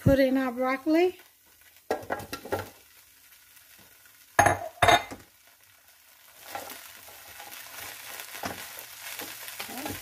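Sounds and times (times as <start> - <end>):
vegetables sizzling in a skillet: 0.0 - 10.0.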